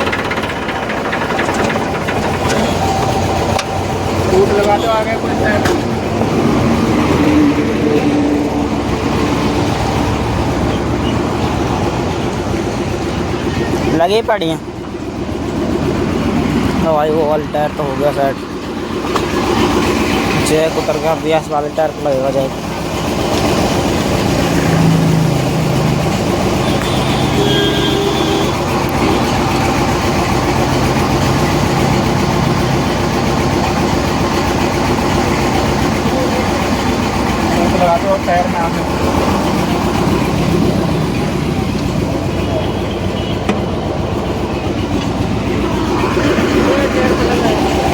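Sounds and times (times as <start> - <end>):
engine idling: 0.0 - 47.9
machinery droning: 0.0 - 47.9.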